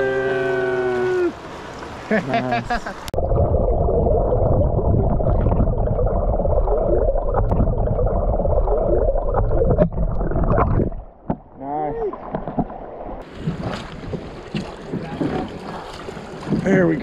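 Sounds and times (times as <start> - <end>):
underwater river rumbling: 0.0 - 17.0.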